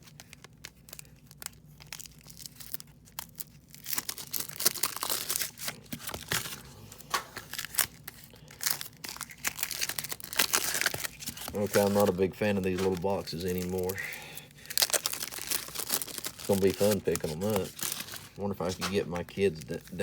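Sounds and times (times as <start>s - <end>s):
packaging clicks: 0.0s - 19.7s
packaging tearing and crinkling: 0.0s - 20.0s.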